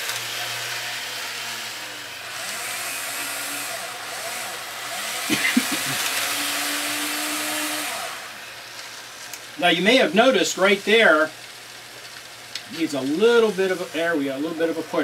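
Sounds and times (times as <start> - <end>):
small electric motors whirring: 0.0 - 15.0.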